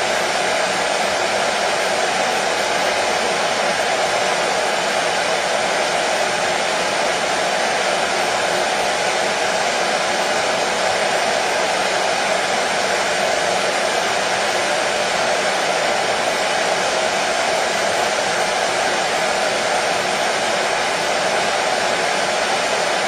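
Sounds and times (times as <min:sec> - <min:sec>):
hair dryer blowing air: 0:00.0 - 0:23.0.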